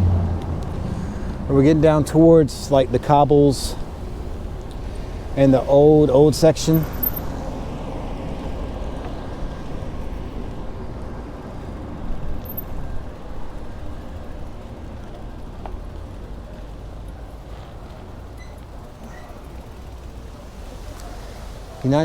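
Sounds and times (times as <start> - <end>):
riding noise: 0.0 - 22.0.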